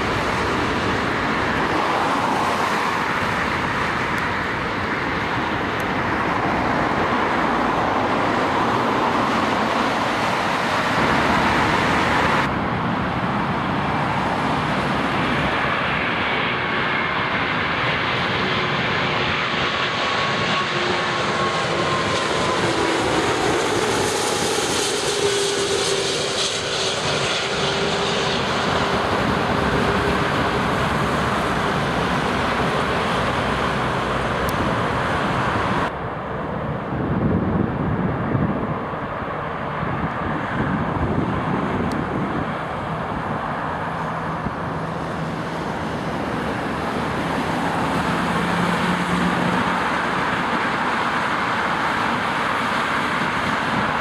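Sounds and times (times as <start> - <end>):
jet airliner engine whine: 0.0 - 54.0
steady rushing noise: 0.0 - 54.0.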